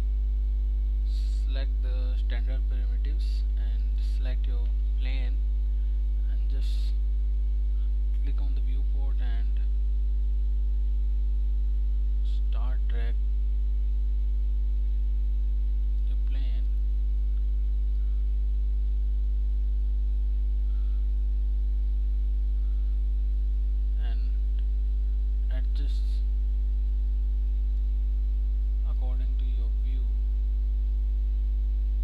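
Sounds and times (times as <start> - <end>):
low electrical mains hum: 0.0 - 32.0.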